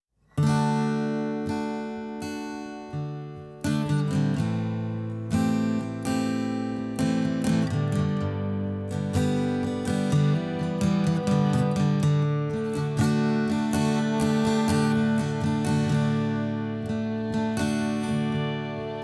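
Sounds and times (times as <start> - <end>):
acoustic guitar strumming chords: 0.4 - 19.0.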